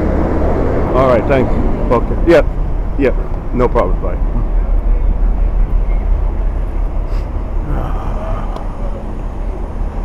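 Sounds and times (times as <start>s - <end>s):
city road traffic rumble: 0.0s - 10.0s.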